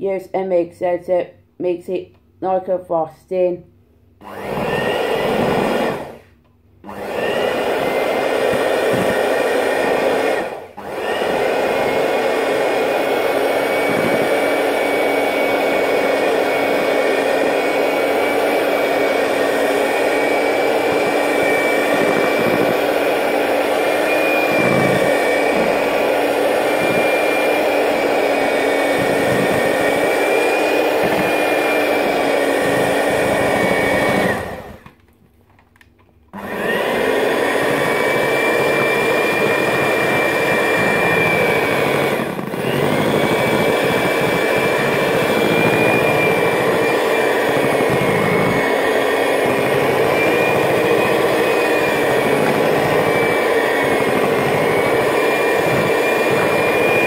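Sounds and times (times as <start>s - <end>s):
electric hand mixer whining: 4.2s - 35.0s, 36.3s - 57.0s.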